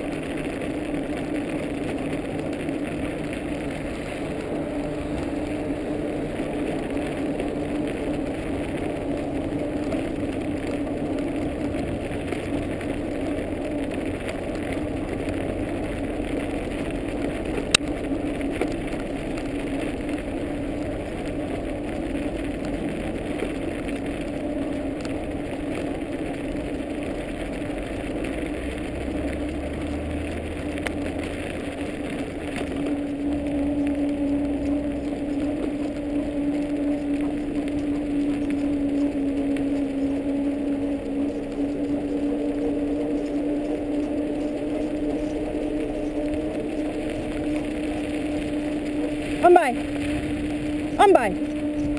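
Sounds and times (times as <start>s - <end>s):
scooter tyres rumbling on snow: 0.0s - 51.9s.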